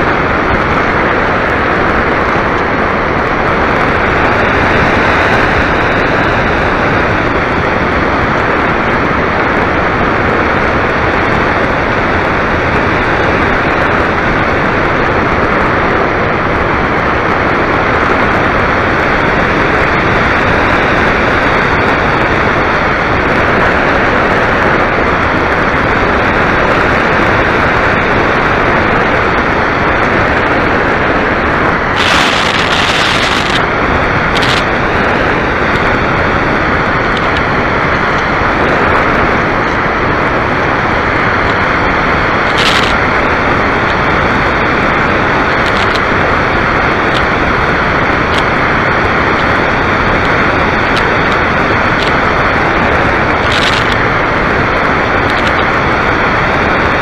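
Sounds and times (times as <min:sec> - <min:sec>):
rush of airflow on microphone: 0:00.0 - 0:57.0.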